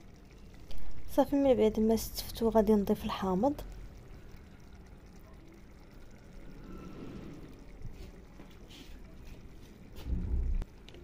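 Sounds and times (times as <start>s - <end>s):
soft liquid trickling: 0.0s - 11.0s.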